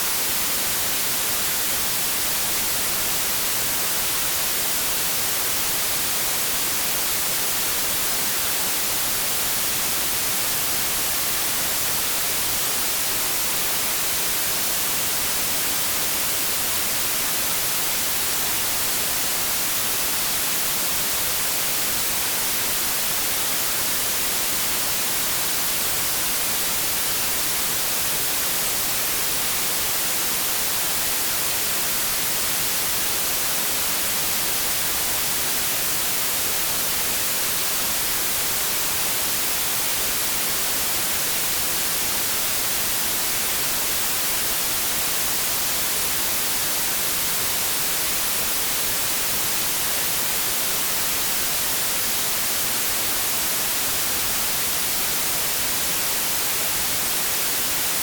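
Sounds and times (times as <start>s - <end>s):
white noise static hiss: 0.0s - 58.0s.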